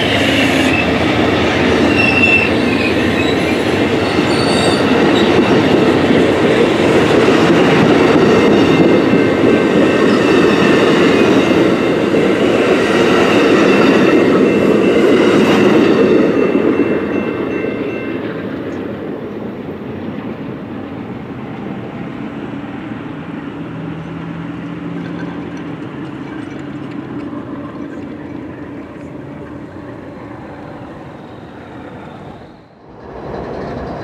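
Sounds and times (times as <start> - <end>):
train wheels rumbling and clacking: 0.0 - 34.0.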